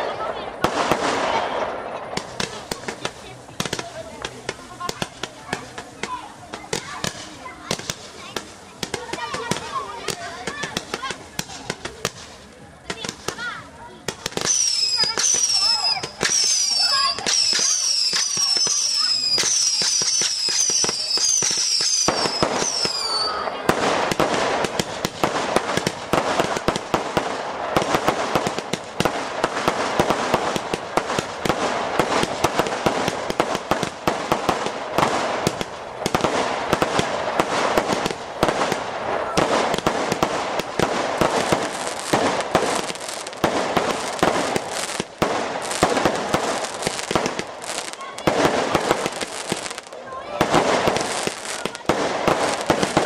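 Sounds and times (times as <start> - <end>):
fireworks bangs: 0.0 - 53.0
fireworks crackle: 0.0 - 53.0.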